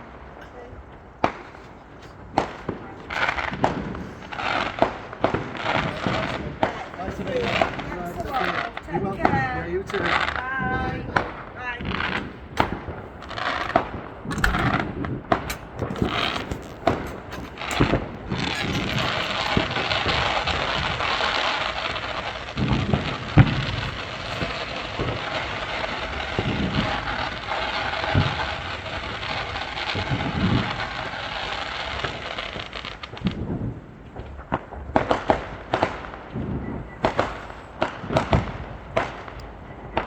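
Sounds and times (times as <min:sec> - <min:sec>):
fireworks hissing: 0:00.0 - 0:36.4, 0:37.0 - 0:40.0
fireworks cracks and bangs: 0:00.0 - 0:40.0.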